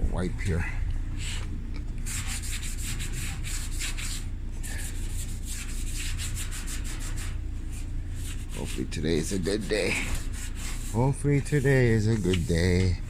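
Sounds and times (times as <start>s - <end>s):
cloth rubbing on metal cabinet: 2.0s - 13.0s.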